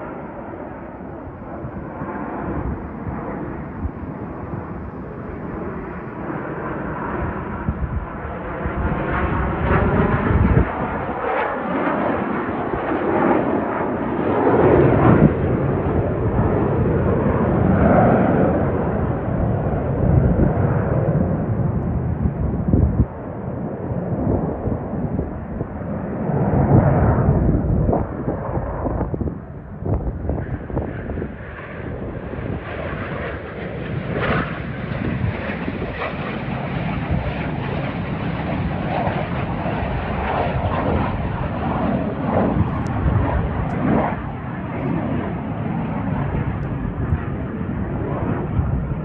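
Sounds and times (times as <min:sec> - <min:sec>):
jets passing overhead: 0:00.0 - 0:49.0.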